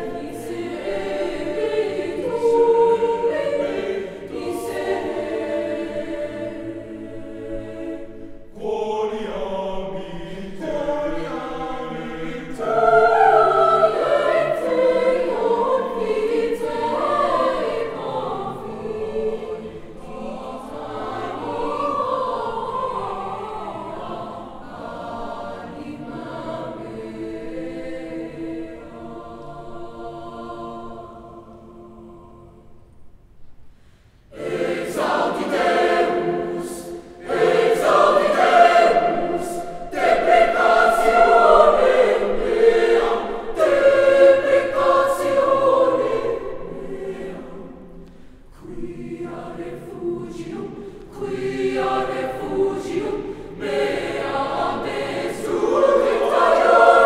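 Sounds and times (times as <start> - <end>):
choir singing: 0.0 - 33.3, 34.1 - 57.0.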